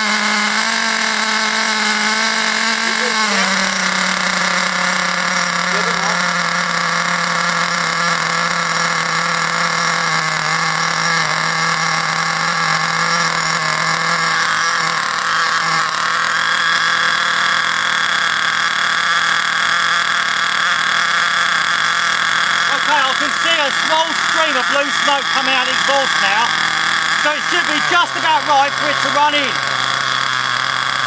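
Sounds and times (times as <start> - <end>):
small two-stroke engine running: 0.0 - 31.0.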